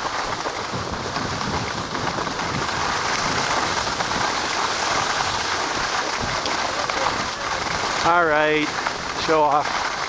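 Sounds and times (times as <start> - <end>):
skis hissing over snow: 0.0 - 10.0.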